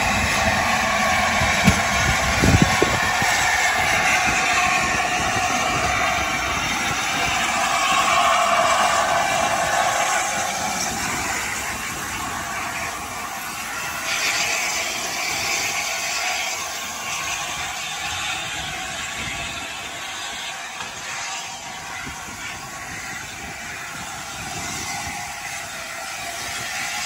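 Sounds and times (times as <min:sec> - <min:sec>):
brighter steam hiss: 0:00.0 - 0:27.0
steam locomotive hissing steam: 0:00.0 - 0:27.0.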